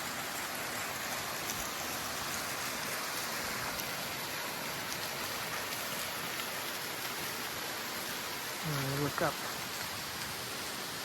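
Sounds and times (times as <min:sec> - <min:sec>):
waterfall splashing on rocks: 0:00.0 - 0:11.0.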